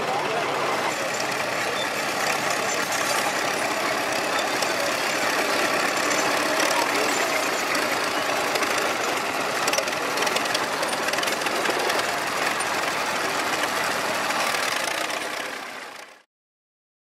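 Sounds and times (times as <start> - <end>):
crawler tractor engines clattering: 0.0 - 16.2.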